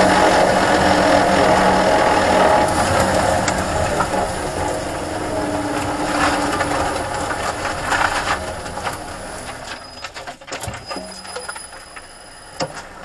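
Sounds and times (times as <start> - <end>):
electric car drivetrain rattling: 0.0 - 13.0.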